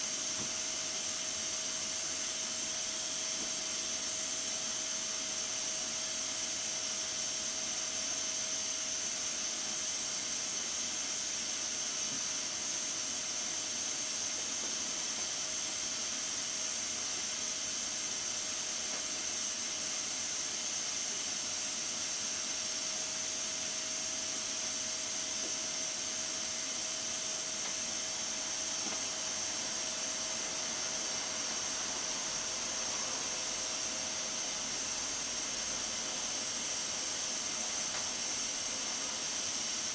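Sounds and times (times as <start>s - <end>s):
steam hissing from valve: 0.0s - 39.9s.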